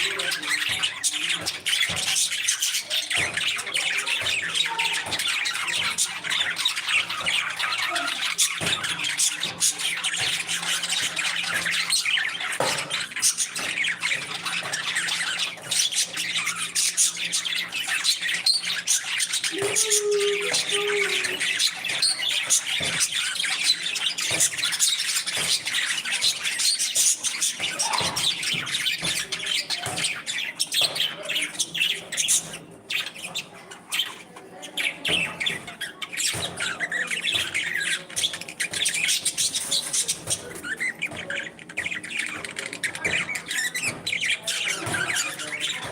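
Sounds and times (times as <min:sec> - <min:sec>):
parrots chattering and squawking: 0:00.0 - 0:45.9.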